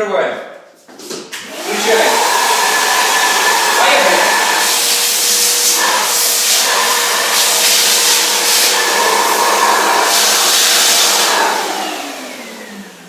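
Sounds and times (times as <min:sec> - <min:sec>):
motor winding down: 0:01.4 - 0:13.0
vacuum cleaner running: 0:01.4 - 0:13.0.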